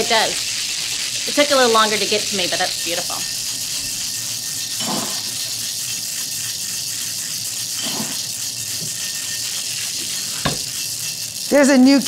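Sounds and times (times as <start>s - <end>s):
ice rattling in cocktail shaker: 0.0s - 12.0s.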